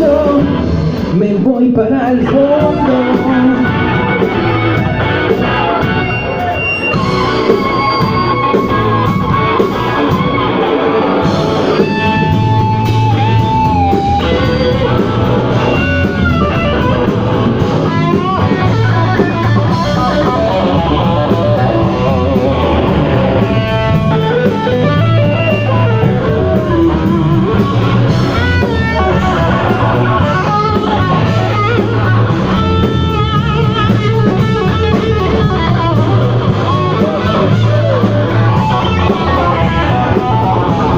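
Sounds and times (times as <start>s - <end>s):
drums: 0.0s - 40.9s
electric guitar with bent notes: 0.0s - 40.9s
pulsing bass: 0.0s - 40.9s.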